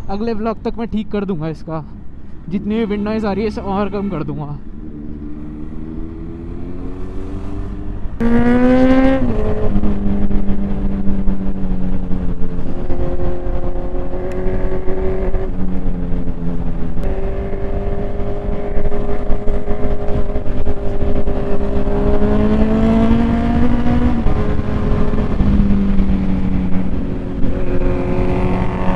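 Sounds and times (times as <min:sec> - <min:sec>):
motorcycle engine revving: 0:02.5 - 0:28.9
wind buffeting microphone: 0:04.6 - 0:28.9.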